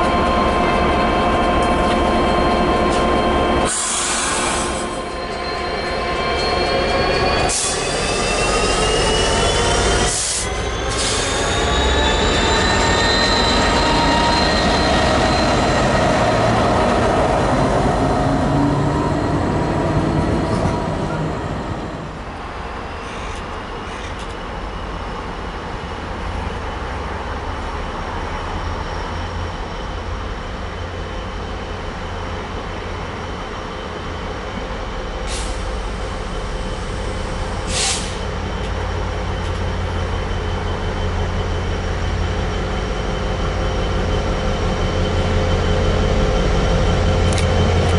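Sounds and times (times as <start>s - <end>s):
freight train whine: 0.0s - 47.9s.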